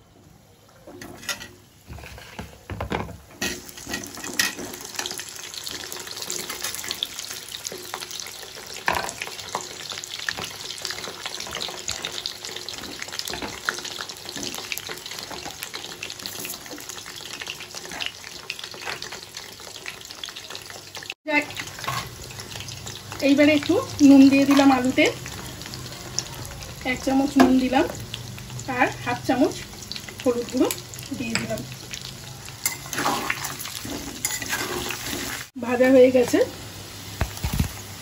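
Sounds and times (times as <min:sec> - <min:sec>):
potatoes sizzling in hot oil: 0:00.4 - 0:38.0.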